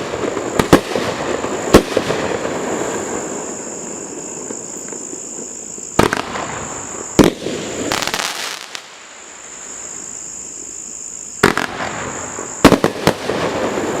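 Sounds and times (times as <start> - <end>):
fireworks bangs: 0.0 - 9.9, 11.4 - 14.0
fireworks crackling: 0.0 - 14.0.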